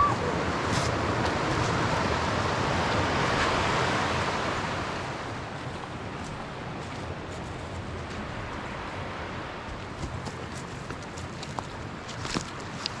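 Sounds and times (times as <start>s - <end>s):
water rushing over rocks: 0.0s - 7.3s, 9.5s - 13.0s.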